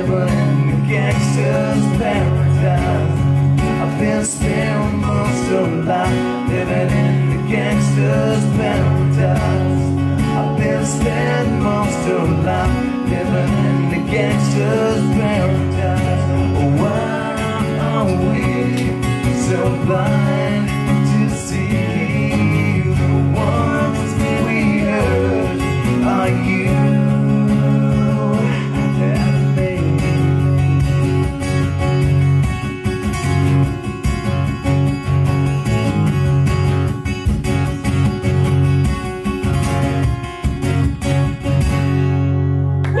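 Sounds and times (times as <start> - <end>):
acoustic guitars strummed and picked: 0.0 - 43.0.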